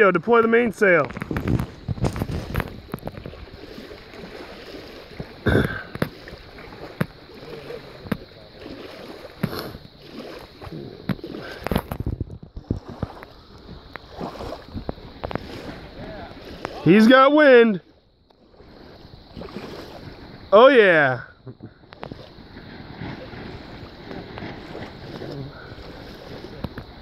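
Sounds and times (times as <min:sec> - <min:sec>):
lake waves lapping: 0:00.0 - 0:27.0.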